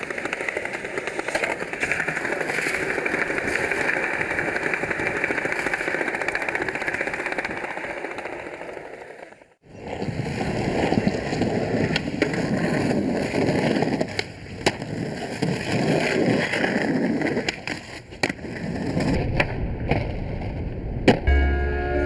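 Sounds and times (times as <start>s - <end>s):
skateboard clacks: 0.0s - 10.1s, 11.3s - 20.1s
skateboard wheels rolling on concrete: 0.0s - 21.2s.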